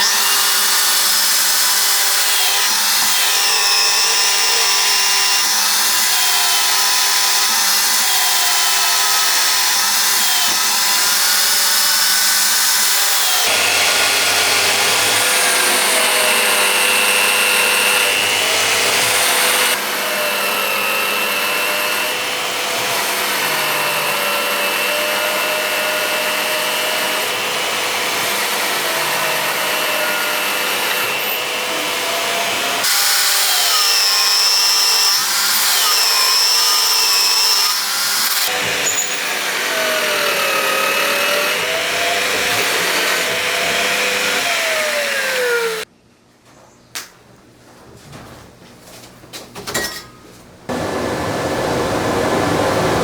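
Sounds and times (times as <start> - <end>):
power tool grinding: 0.0 - 45.9, 50.7 - 53.0.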